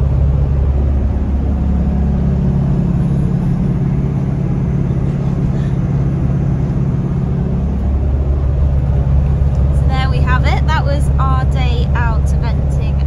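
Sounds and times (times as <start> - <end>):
lorry engine drone: 0.0 - 13.0
road noise: 0.0 - 13.0.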